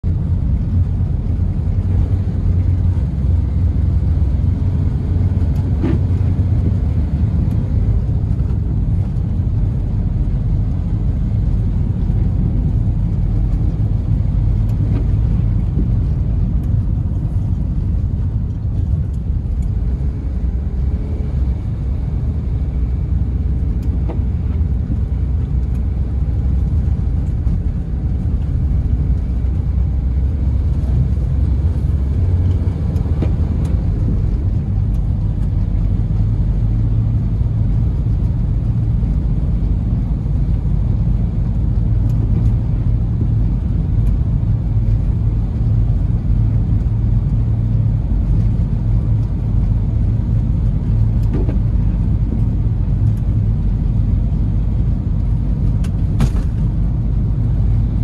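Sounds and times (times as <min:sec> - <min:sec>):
car engine running: 0:00.0 - 0:58.0
tyre and road noise: 0:00.0 - 0:58.0.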